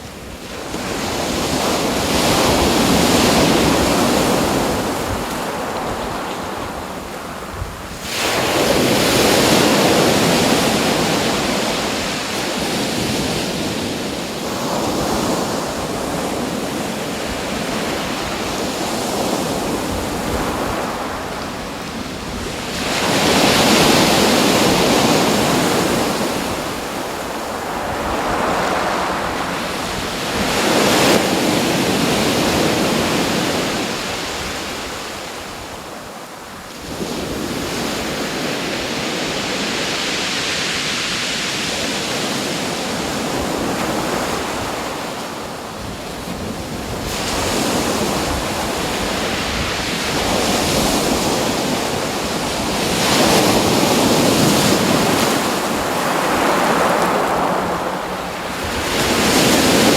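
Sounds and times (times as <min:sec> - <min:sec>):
waves breaking on shore: 0:00.0 - 0:59.9
wind: 0:00.0 - 0:59.9.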